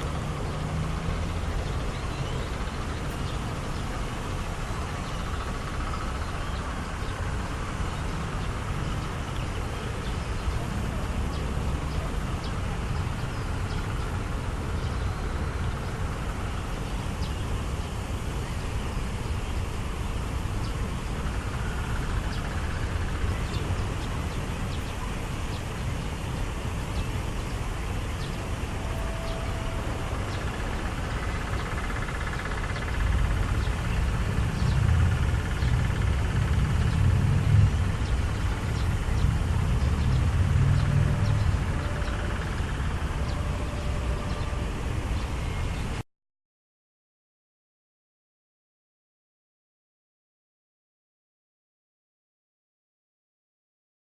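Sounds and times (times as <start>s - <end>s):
distant city traffic rumble: 0.0s - 46.0s.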